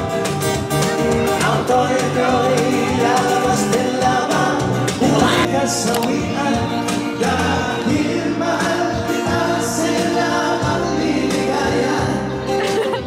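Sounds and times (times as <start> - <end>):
cajon drum: 0.0 - 12.4
acoustic guitar: 0.0 - 13.0
bass guitar: 0.0 - 13.0
people singing: 0.9 - 13.0.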